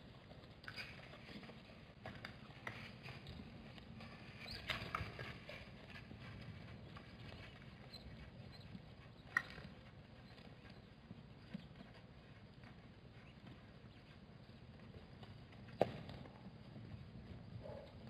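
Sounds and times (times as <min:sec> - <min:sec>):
hooves on hard dry ground: 0:00.0 - 0:18.0.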